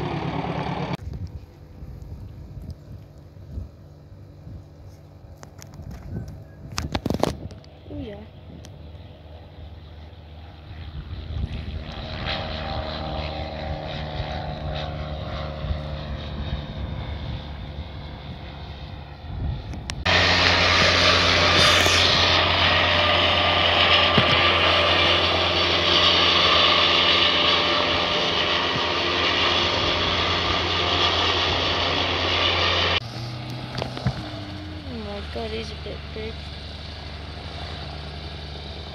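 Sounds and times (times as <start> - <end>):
helicopter hovering: 0.0 - 38.9
propeller plane engine drone: 0.0 - 38.9.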